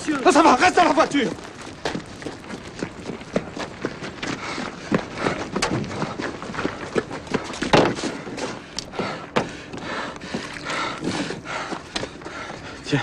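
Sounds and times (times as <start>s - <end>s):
irregular thuds and knocks: 1.4s - 12.5s.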